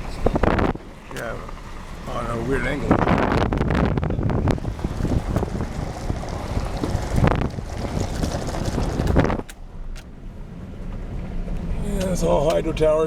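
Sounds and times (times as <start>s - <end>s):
vehicle knocks and rattles: 0.0s - 12.8s
tyres rumbling on gravel: 0.0s - 13.0s.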